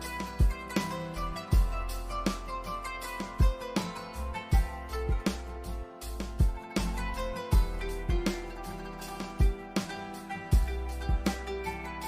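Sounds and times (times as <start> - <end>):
guitar music with steady beat: 0.0 - 12.0.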